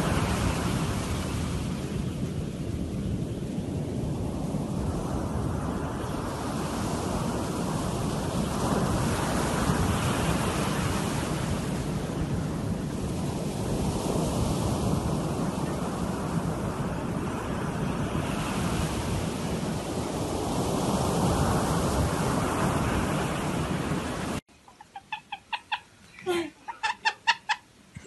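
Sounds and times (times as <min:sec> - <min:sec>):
ocean surf breaking on beach: 0:00.0 - 0:28.0.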